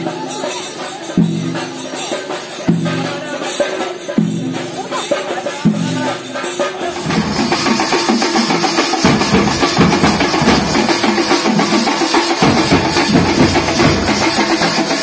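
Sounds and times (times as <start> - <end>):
steel drums beaten fast: 0.0 - 15.0.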